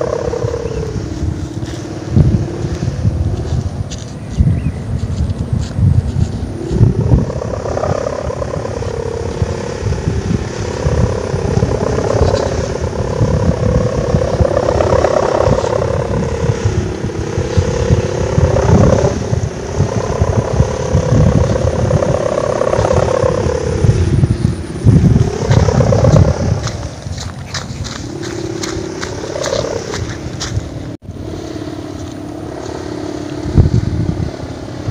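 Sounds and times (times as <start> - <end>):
kite hummer droning: 0.0 - 34.9
wind buffeting microphone: 0.0 - 34.9.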